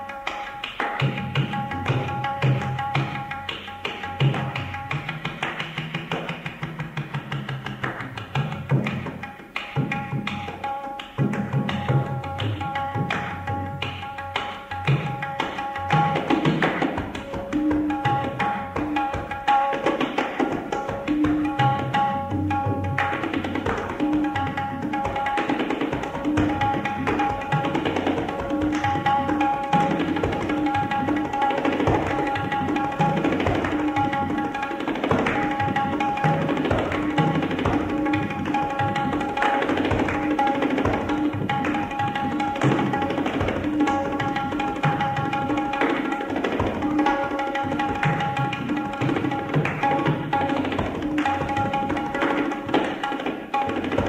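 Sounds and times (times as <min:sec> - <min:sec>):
fast drum percussion: 0:00.7 - 0:54.0.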